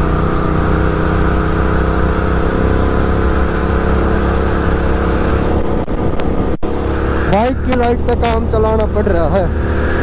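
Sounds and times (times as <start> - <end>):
motorcycle cruising: 0.0 - 10.0.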